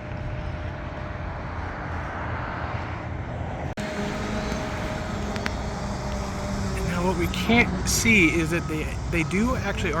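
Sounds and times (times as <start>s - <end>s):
engine rumble: 0.0s - 10.0s.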